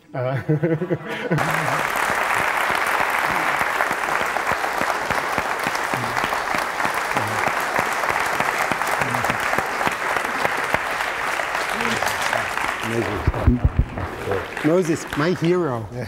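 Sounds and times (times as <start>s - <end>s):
audience applauding: 1.1s - 16.0s.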